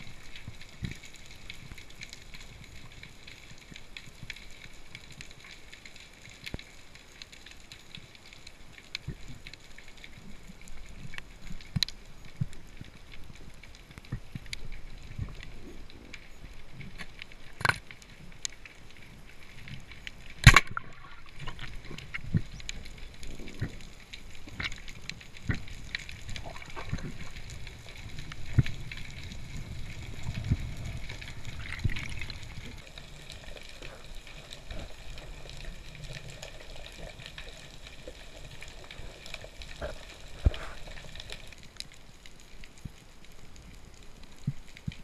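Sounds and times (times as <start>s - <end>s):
underwater water noise: 0.0s - 45.0s.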